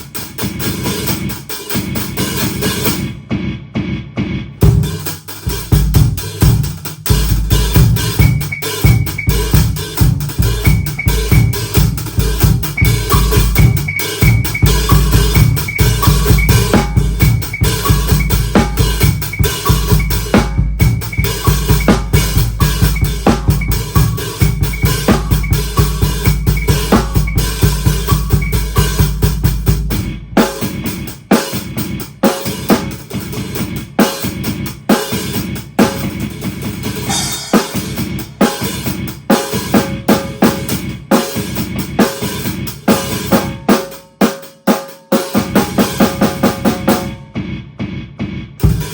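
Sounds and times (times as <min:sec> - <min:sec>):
drum kit played fast: 0:00.0 - 0:48.9.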